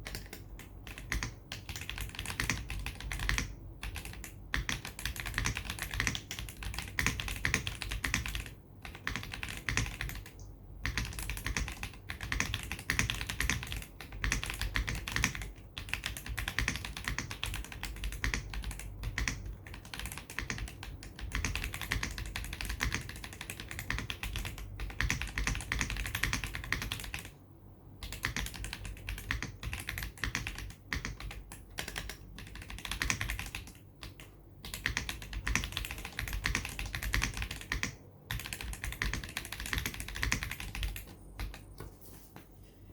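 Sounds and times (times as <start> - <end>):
mechanical keyboard typing: 0.0 - 27.3, 28.0 - 41.8.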